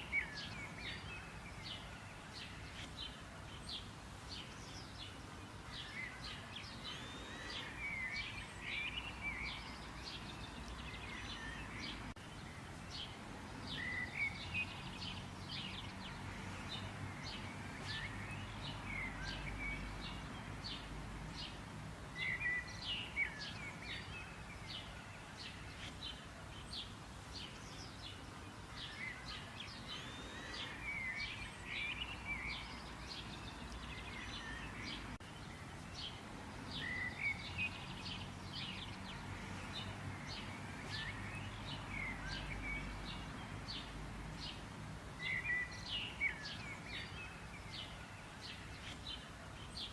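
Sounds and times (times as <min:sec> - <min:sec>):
birds chirping: 0:00.0 - 0:49.9
faint background hiss: 0:00.0 - 0:49.9.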